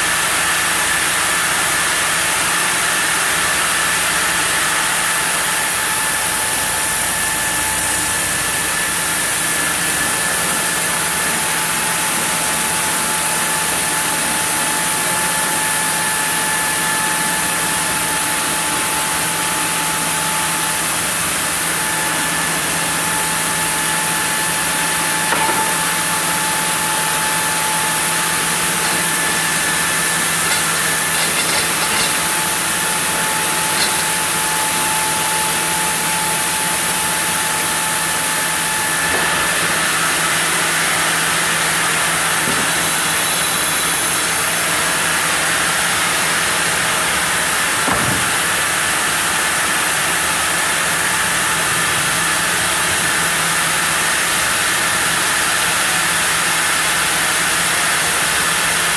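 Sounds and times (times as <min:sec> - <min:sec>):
saw cutting wood with whine: 0:00.0 - 0:58.9.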